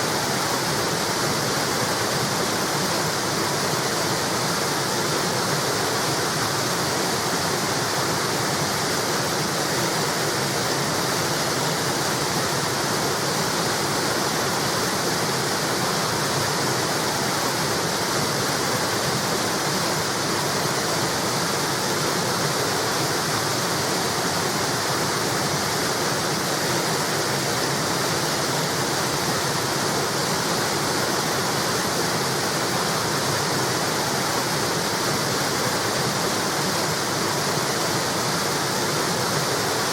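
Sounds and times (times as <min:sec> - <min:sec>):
water rushing over wall: 0:00.0 - 0:39.9.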